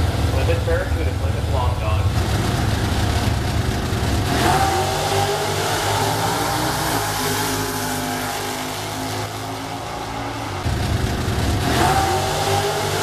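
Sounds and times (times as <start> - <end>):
race car engines at full throttle: 0.0 - 13.0.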